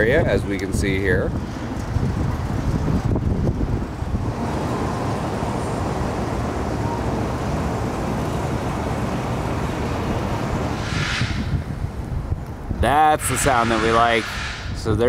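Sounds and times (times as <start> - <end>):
construction machinery engines rumbling: 0.0 - 10.8, 11.4 - 15.0.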